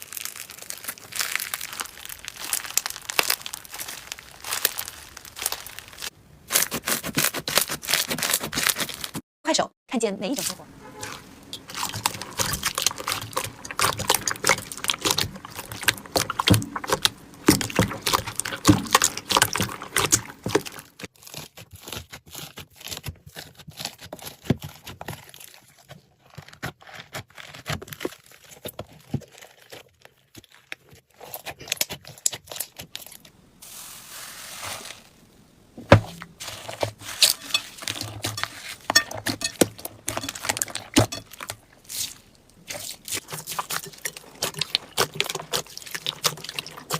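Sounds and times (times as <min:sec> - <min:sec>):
slime clicking and crackling: 0:00.0 - 0:09.2, 0:11.5 - 0:33.3, 0:36.2 - 0:46.9.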